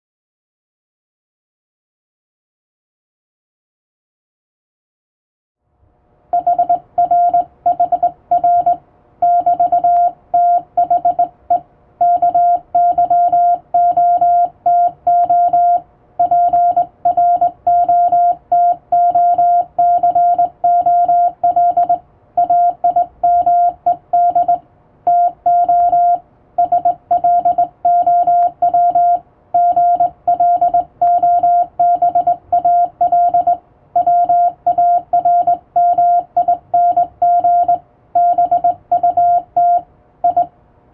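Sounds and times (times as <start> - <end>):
morse code tone: 6.4 - 40.5.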